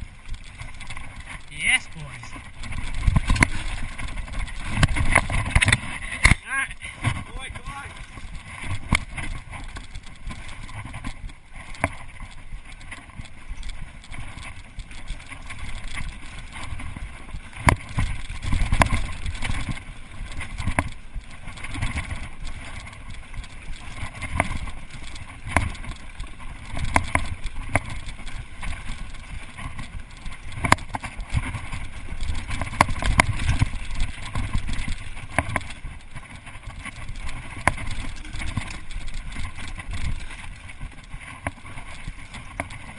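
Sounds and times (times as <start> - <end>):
bike rattling over bumps: 0.0 - 42.9
bike tyres rumbling on trail: 0.0 - 42.9.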